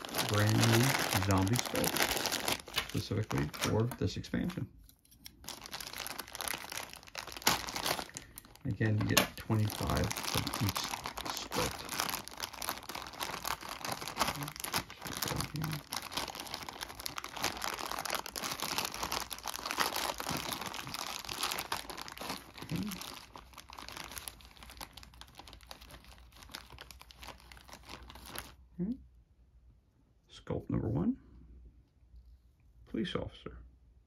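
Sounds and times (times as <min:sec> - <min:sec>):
plastic bag crinkling: 0:00.0 - 0:28.6.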